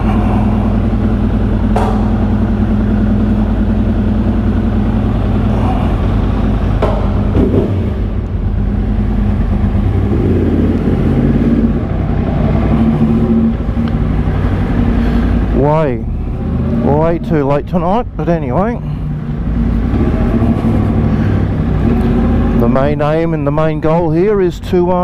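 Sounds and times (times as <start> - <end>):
motorcycle engine idling: 0.0 - 21.9.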